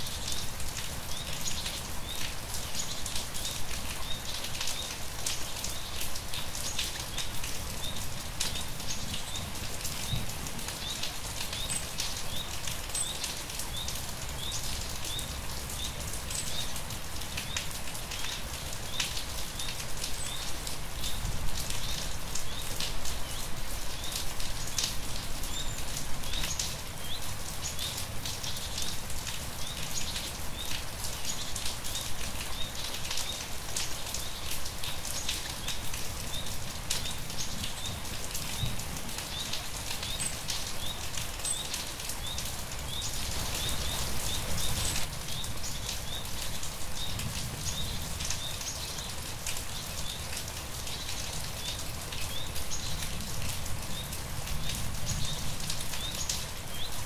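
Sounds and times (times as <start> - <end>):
rain with drop splats: 0.0 - 57.0.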